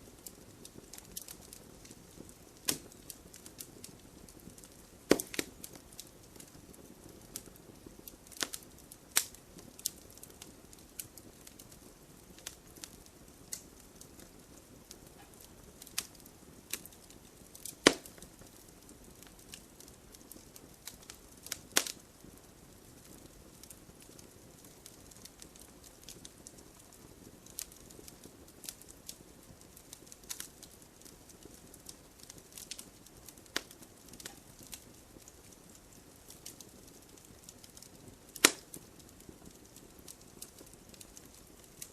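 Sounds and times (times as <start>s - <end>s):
campfire crackling and popping: 0.0s - 41.9s
faint steady hiss: 0.0s - 41.9s.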